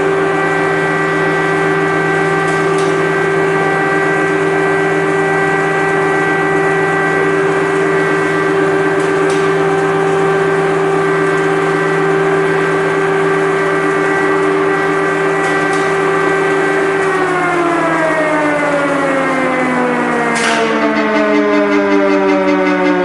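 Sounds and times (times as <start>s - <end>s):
air-raid siren: 0.0s - 23.0s.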